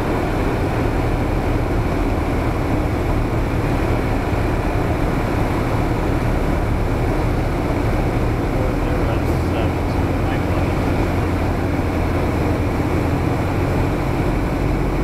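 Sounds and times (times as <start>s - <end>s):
aircraft engine droning in cabin: 0.0s - 15.0s.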